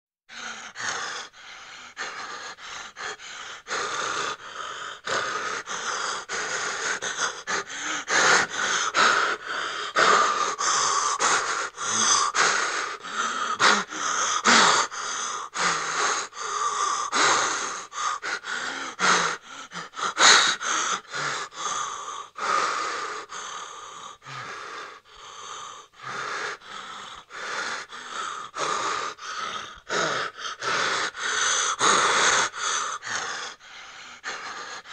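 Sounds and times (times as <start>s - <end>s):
person gasping breaths: 0.3s - 34.9s.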